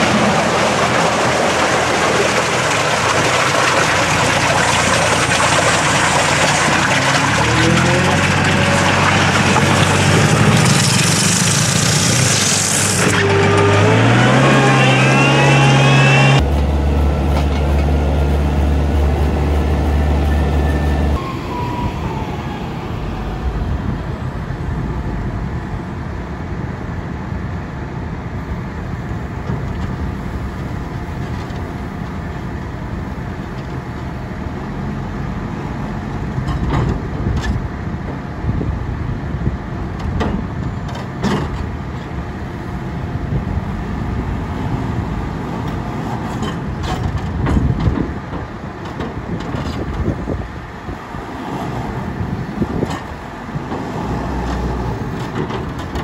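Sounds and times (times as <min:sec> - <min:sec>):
diesel loader engine: 0:00.0 - 0:56.0
quieter wheel loader engine: 0:00.0 - 0:56.0.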